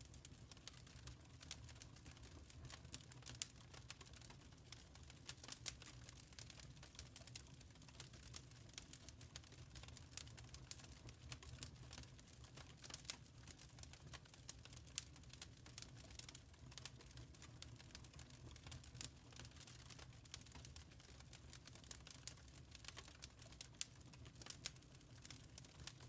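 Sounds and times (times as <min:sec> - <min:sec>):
wood fire popping and snapping: 0:00.0 - 0:26.0.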